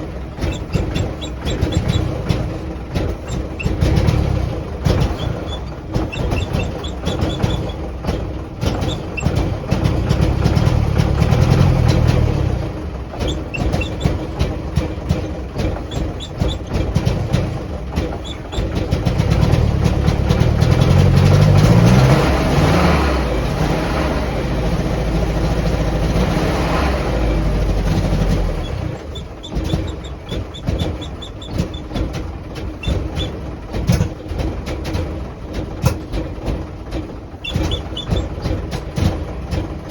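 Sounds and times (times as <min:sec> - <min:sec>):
engine running unevenly and revving: 0:00.0 - 0:39.9.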